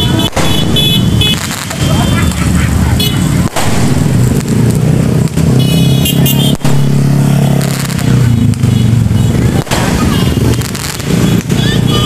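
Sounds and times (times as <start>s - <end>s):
vehicles passing by: 0.0s - 12.0s.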